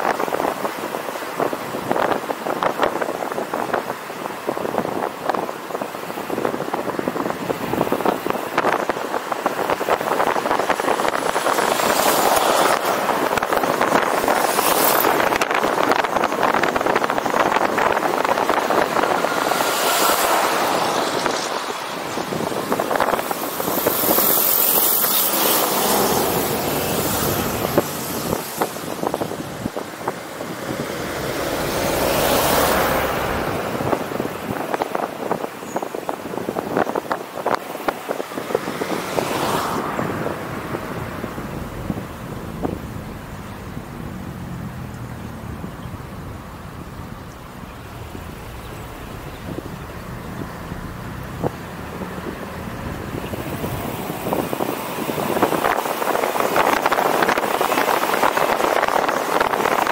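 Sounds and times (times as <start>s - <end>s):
gusts of wind: 0.0s - 59.9s
vehicle road noise: 0.0s - 59.9s.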